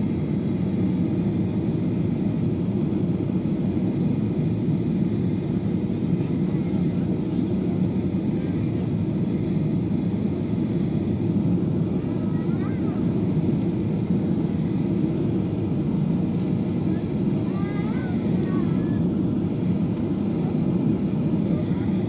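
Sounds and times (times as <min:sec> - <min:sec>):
airliner cabin engine rush: 0:00.0 - 0:22.0.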